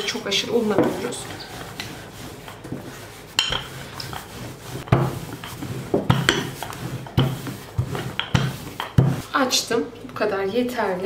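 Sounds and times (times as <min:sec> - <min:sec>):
rolling pin rolling dough: 0:00.0 - 0:09.3.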